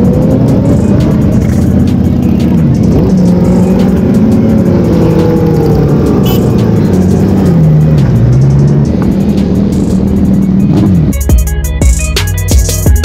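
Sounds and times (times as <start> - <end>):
motorcycle engines revving past: 0.0 - 11.2
music: 0.0 - 13.0.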